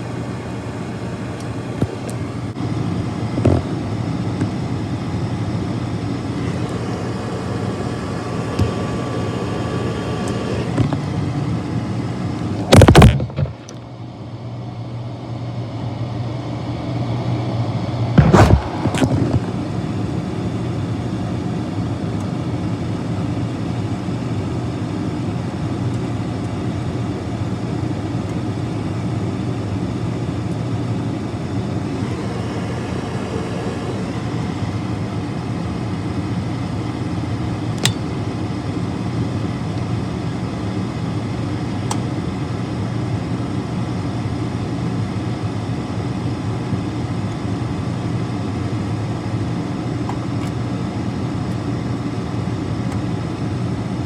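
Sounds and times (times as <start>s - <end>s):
furnace blower humming: 0.0s - 13.0s, 14.4s - 54.0s.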